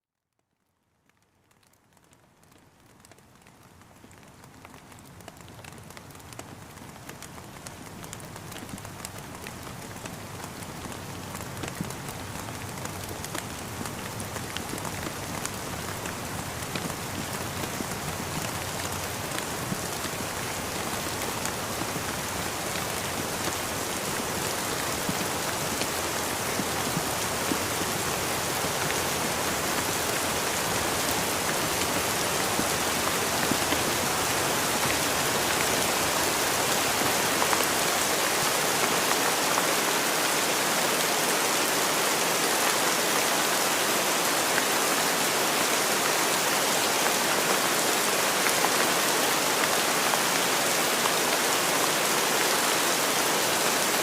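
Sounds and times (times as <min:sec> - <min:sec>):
steady rain: 0:00.3 - 0:54.0.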